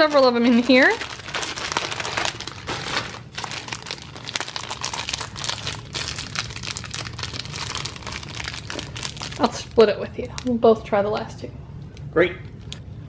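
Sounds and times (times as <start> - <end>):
plastic wrapper crinkling: 0.0 - 10.5.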